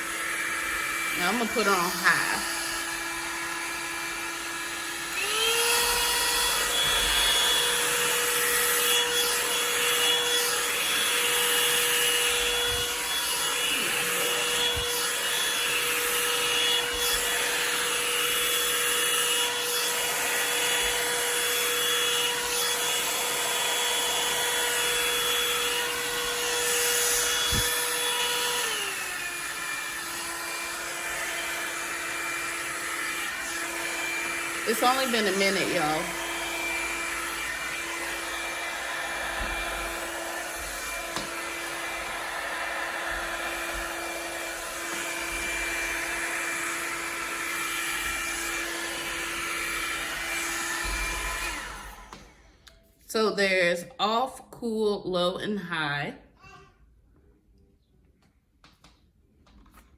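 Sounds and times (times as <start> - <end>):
hair dryer motor whine: 0.0 - 53.7.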